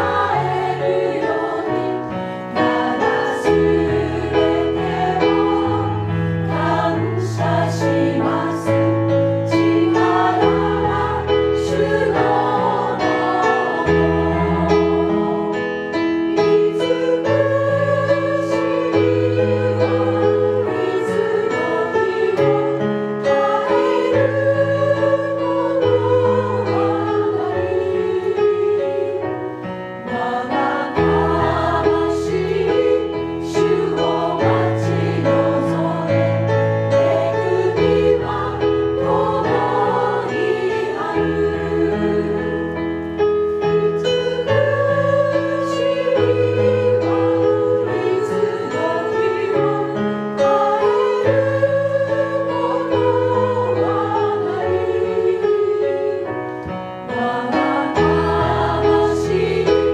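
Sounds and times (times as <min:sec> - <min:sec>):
women's choir singing a hymn: 0:00.0 - 0:59.9.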